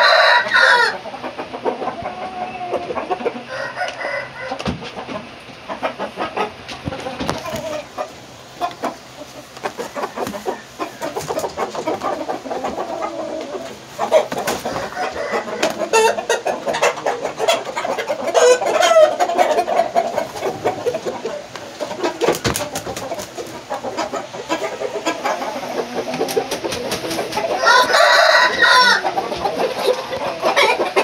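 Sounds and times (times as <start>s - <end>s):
roosters clucking: 0.0s - 31.0s.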